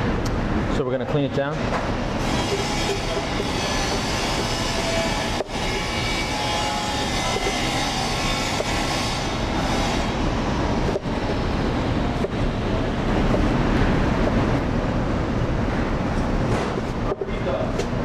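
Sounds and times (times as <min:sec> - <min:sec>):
loud steady rumbling: 0:00.0 - 0:18.0.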